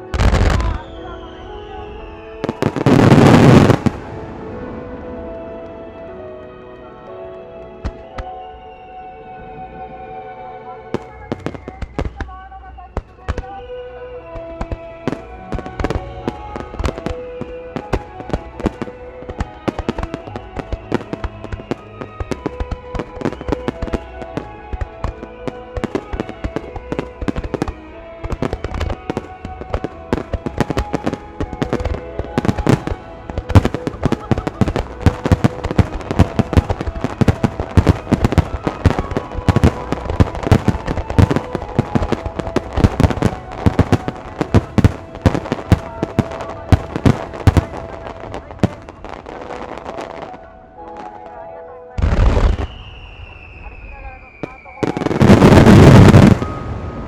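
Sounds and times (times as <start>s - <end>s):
fireworks bangs: 0.0s - 8.4s, 10.9s - 51.3s, 52.0s - 57.0s
music playing: 0.0s - 57.0s.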